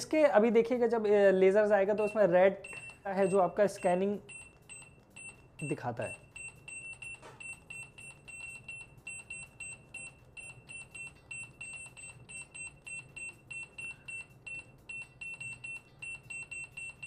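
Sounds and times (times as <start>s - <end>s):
barcode scanner beeping: 1.8s - 17.0s.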